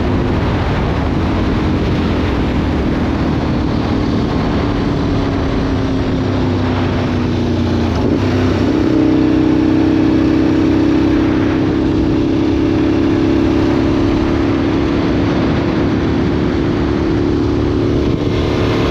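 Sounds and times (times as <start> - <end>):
motorcycle engine while riding: 0.0 - 18.9.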